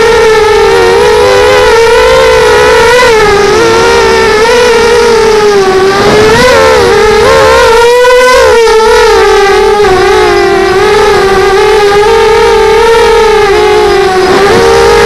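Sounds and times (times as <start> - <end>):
low wind rumble: 0.0 - 15.0
quadcopter motors whining: 0.0 - 15.0.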